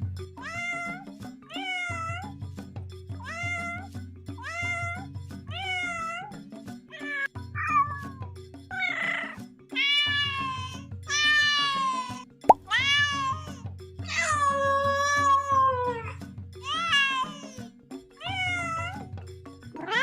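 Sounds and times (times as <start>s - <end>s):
cat meowing: 0.4s - 2.3s, 3.2s - 6.3s, 6.9s - 17.6s, 18.2s - 19.1s, 19.8s - 20.0s.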